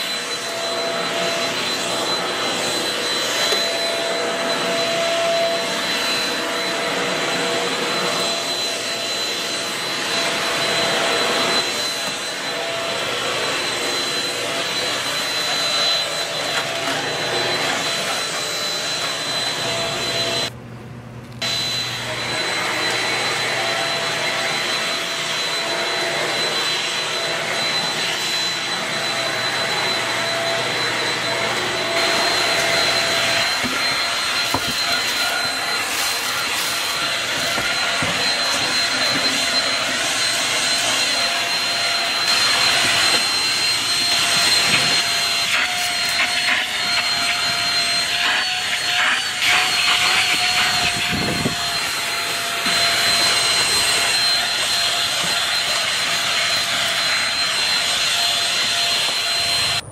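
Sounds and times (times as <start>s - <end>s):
vacuum cleaner running: 0.0s - 20.7s, 21.3s - 59.9s.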